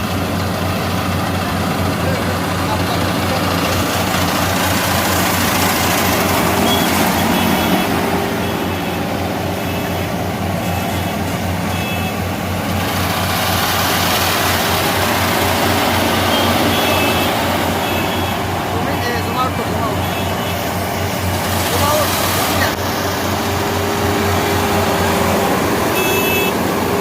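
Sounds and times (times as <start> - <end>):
combine harvester engine humming: 0.0 - 27.0
cutting and threshing machinery: 0.0 - 27.0.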